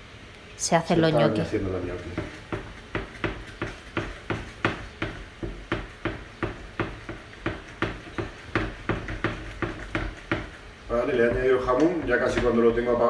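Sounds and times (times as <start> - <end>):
utensil knocking against frying pan: 2.1 - 12.8.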